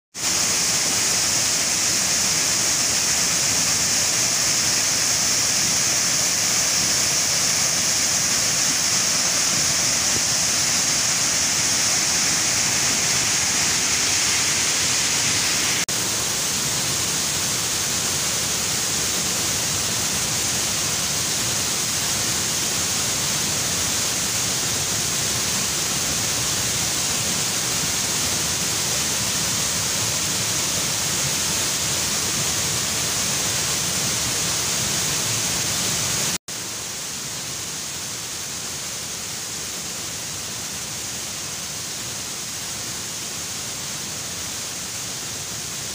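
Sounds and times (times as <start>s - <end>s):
waterfall rushing: 0.2s - 45.9s.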